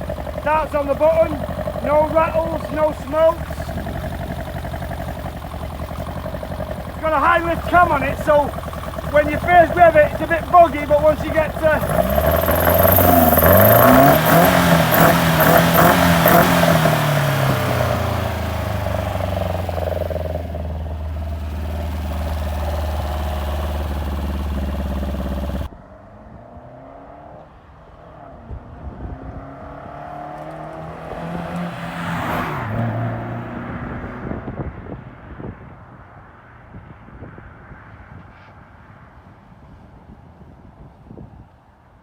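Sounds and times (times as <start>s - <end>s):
car engine revving: 0.0s - 34.4s.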